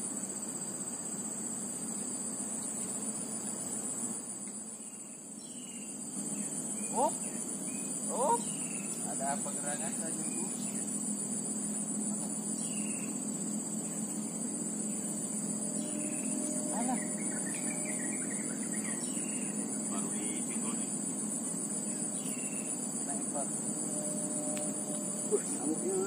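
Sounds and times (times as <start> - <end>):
high-pitched insect chorus: 0.0 - 26.0
low steady hum: 0.0 - 26.0.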